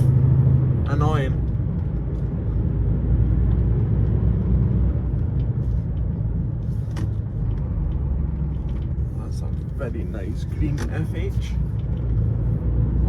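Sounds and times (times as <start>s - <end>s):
lorry diesel engine rumble: 0.0s - 13.0s
road noise: 0.0s - 13.0s.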